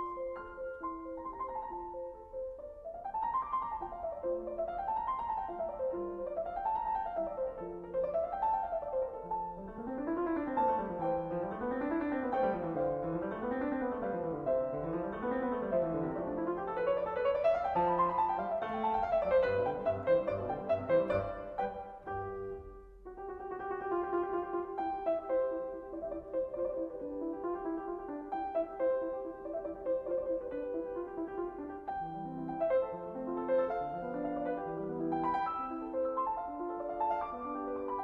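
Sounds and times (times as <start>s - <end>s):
piano arpeggios: 0.0s - 38.0s.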